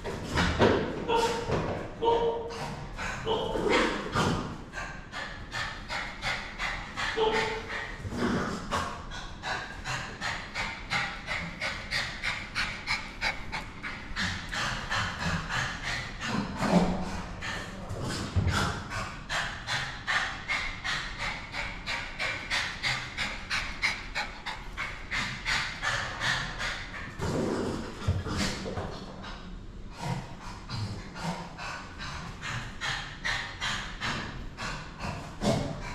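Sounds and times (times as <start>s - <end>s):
small dog panting: 0.1s - 35.9s.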